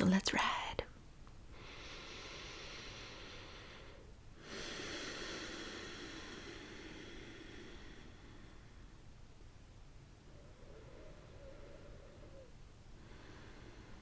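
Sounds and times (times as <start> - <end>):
person breathing deeply: 1.5 - 9.2, 10.3 - 14.0.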